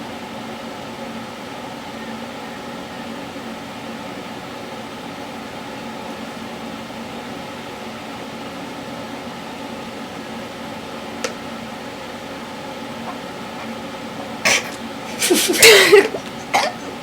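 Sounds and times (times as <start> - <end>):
appliance mechanical hum: 0.0 - 17.0.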